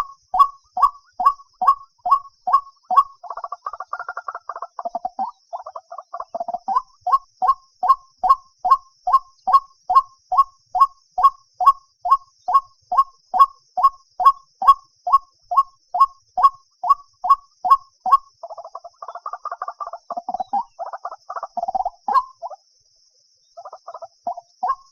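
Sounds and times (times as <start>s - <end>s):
waterhen calling: 0.0s - 22.6s, 23.6s - 24.9s.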